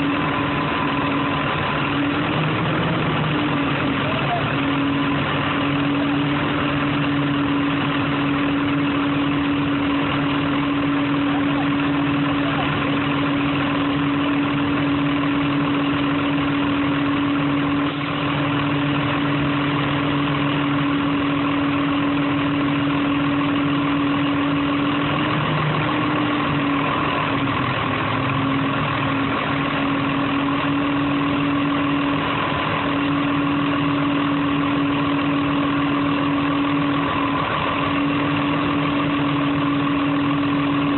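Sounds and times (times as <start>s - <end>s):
machine engine idling: 0.0s - 40.9s.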